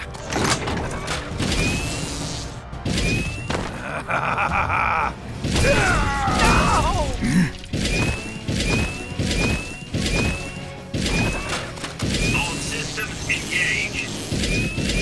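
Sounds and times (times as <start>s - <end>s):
action background music: 0.0s - 15.0s.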